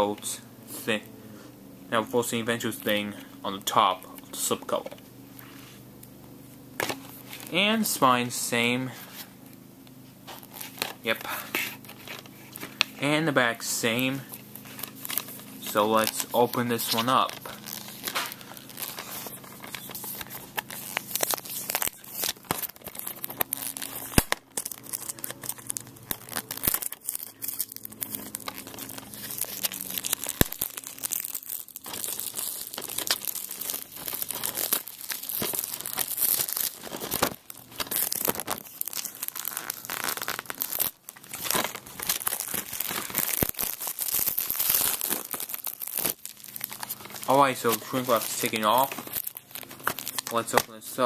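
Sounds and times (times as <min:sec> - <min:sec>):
plastic shrink wrap crinkling and ripping: 0:06.8 - 0:08.0, 0:10.2 - 0:51.0.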